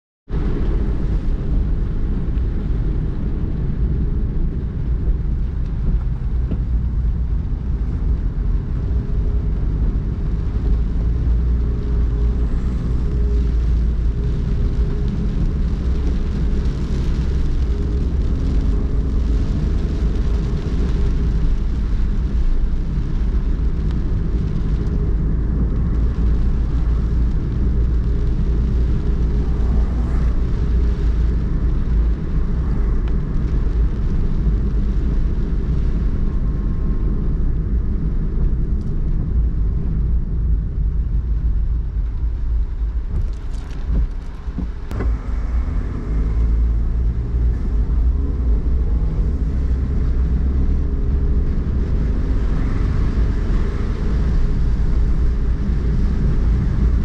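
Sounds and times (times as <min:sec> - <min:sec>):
car tyres and engine rumble: 0:00.2 - 0:57.0.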